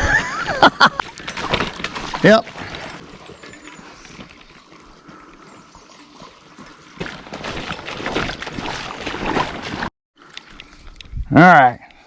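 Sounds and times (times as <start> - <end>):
river water trickling and splashing: 0.0 - 10.9.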